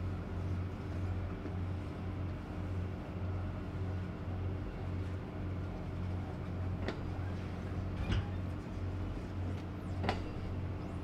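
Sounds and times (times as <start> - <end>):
train cars humming past: 0.0 - 11.0.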